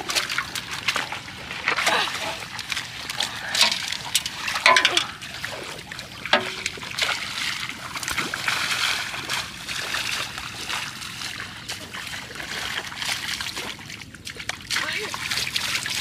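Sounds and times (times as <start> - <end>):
bare feet splashing in water: 0.0 - 16.0
water sloshing: 0.0 - 16.0.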